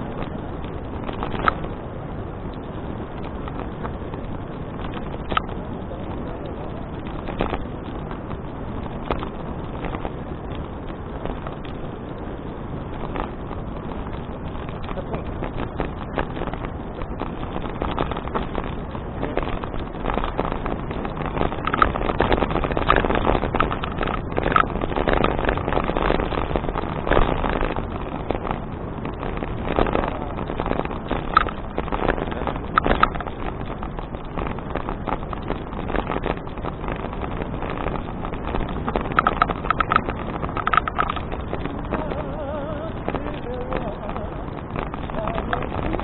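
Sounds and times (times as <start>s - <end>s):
bicycle rattling along path: 0.0s - 46.0s
wind rushing over microphone: 0.0s - 46.0s.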